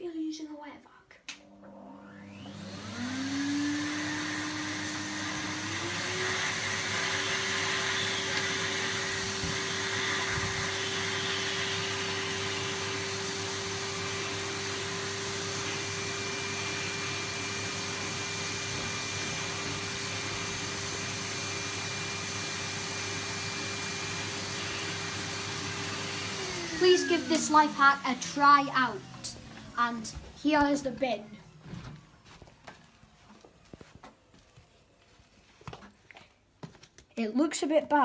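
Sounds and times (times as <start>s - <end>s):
vacuum cleaner running: 1.4s - 33.7s.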